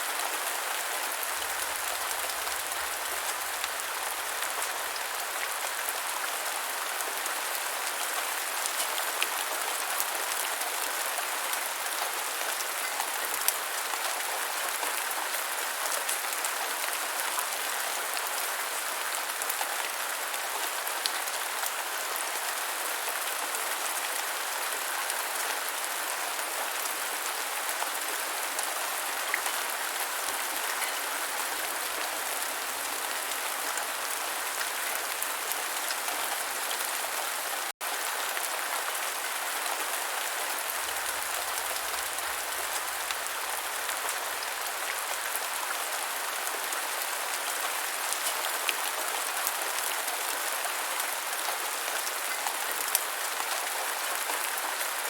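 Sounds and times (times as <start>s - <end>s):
rain falling on ground: 0.0s - 55.0s.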